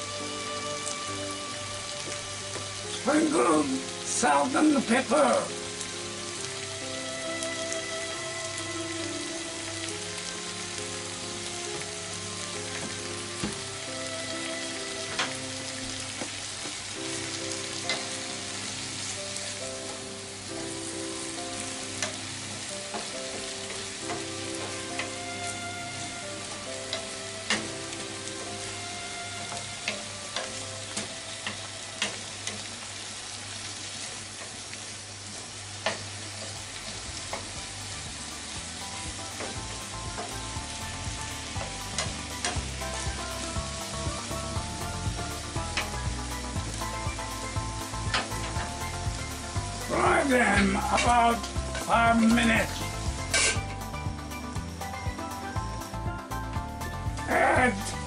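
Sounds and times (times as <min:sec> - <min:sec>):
vegetables sizzling in a frying pan: 0:00.0 - 0:58.0.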